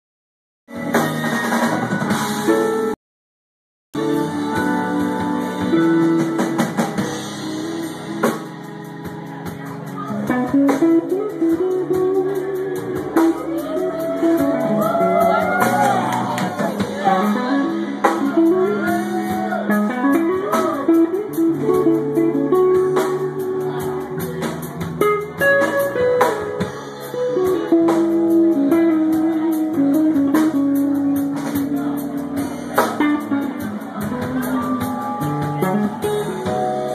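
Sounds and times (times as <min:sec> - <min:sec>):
bass guitar: 0:00.7 - 0:03.0, 0:04.0 - 0:36.9
electric guitar: 0:00.7 - 0:03.0, 0:04.0 - 0:36.9
steady drum beat: 0:04.0 - 0:36.9.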